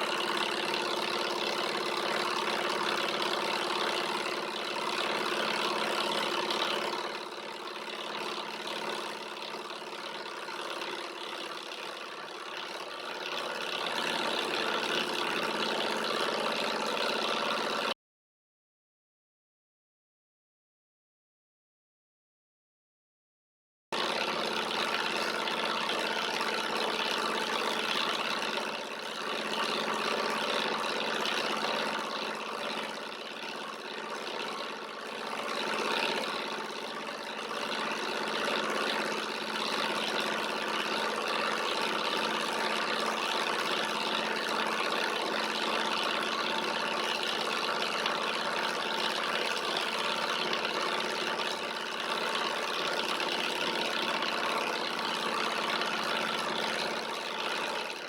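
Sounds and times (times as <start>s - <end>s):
engine mechanical hum: 0.0s - 18.0s, 24.0s - 58.0s.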